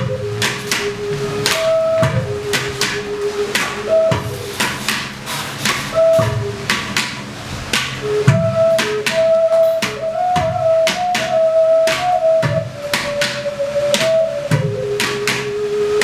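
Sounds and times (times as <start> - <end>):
small flute long held notes: 0.0 - 7.1, 8.0 - 16.0
hand slaps on clay pot drums: 0.4 - 15.5.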